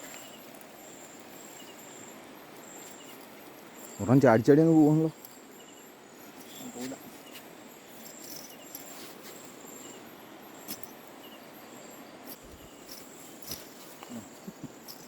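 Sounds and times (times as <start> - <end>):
background hiss: 0.0 - 15.0
crickets chirping: 0.0 - 15.0.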